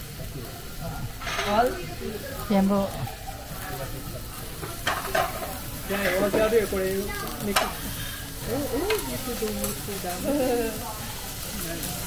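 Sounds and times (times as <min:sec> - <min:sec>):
sizzle on hot griddle: 0:00.0 - 0:12.0.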